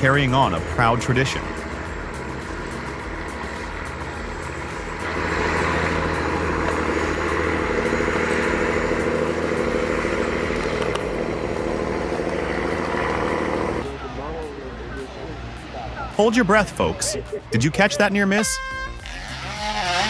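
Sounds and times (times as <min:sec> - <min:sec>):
truck diesel engine labouring: 0:00.0 - 0:20.0.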